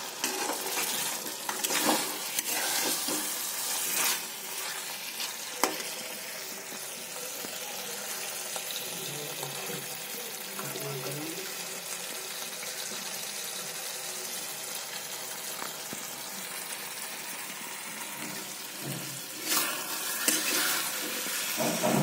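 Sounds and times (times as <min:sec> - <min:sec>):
food sizzling in a hot pan: 0:00.0 - 0:22.0.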